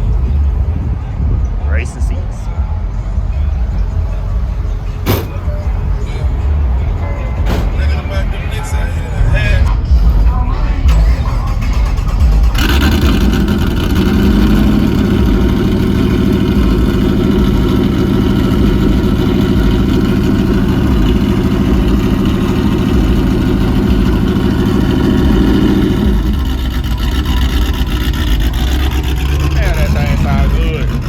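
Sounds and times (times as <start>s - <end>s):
car engine running loudly: 0.0s - 31.0s.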